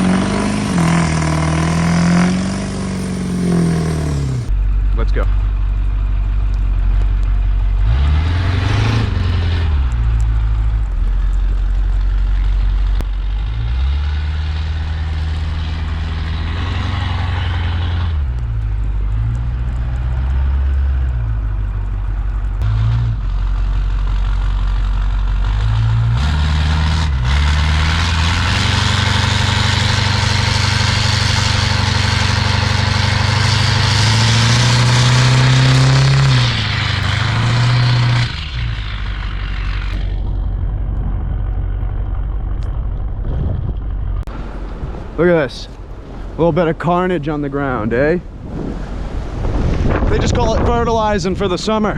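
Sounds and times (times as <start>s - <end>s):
pickup truck engine revving: 0.0s - 5.2s, 6.3s - 45.1s.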